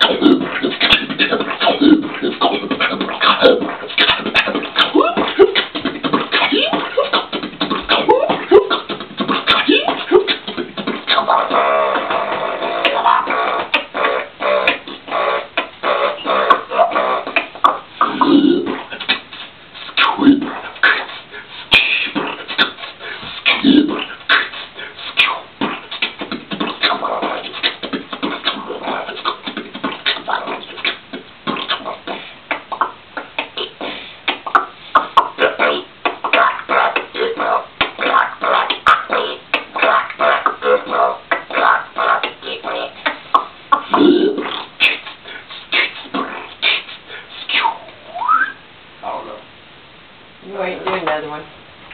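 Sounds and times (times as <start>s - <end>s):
man beatboxing: 0.0s - 49.4s
vocal swoop: 0.0s - 49.4s.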